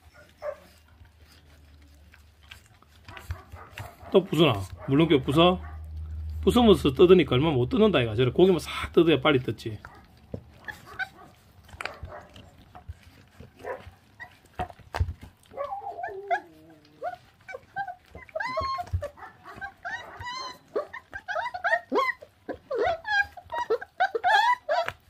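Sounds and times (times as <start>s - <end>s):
puppies whining and whimpering: 0.0s - 8.1s, 9.9s - 25.0s
puppies chewing clicks: 0.0s - 25.0s.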